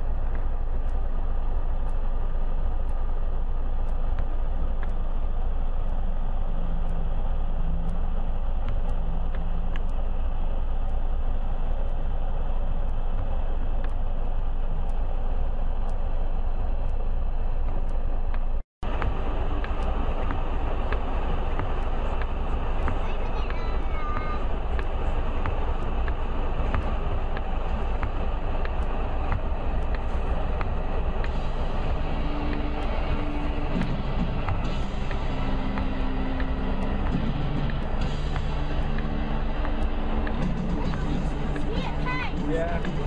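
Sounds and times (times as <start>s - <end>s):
off-road vehicle engine climbing: 0.0s - 43.0s
steady low rumble: 0.0s - 43.0s.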